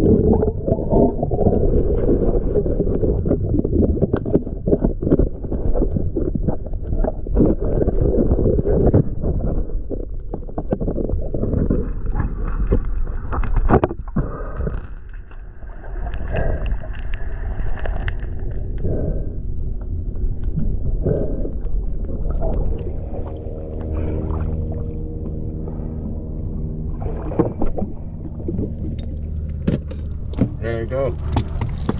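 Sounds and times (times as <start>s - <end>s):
gurgling bubbles underwater: 0.0s - 31.9s
low rumble: 0.0s - 31.9s.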